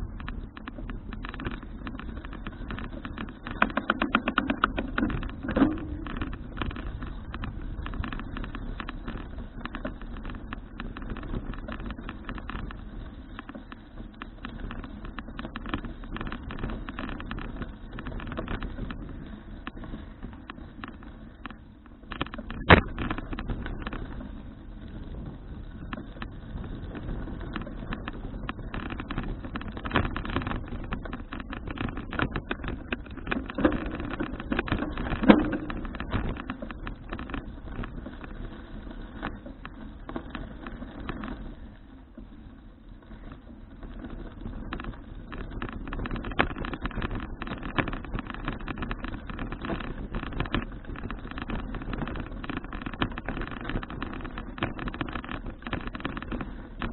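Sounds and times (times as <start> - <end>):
bicycle rattling knocks: 0.0 - 56.9
wind and road noise: 0.0 - 56.9.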